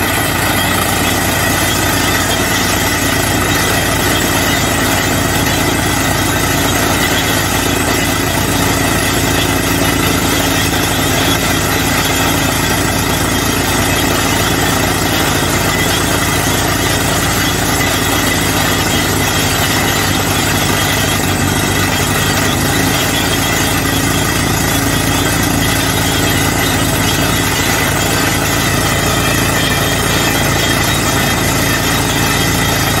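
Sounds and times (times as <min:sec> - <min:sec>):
drilling rig engine knocking: 0:00.0 - 0:33.0.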